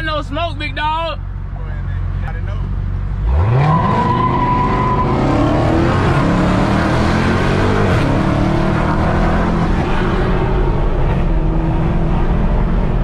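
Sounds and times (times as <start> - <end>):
car engine at full throttle: 1.2 - 13.0.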